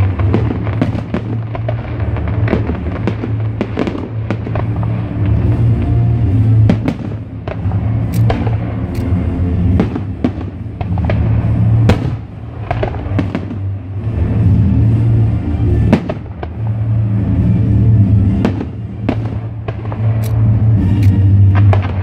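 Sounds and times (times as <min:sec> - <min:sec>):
fireworks bursting: 0:00.0 - 0:22.0
music: 0:00.0 - 0:22.0.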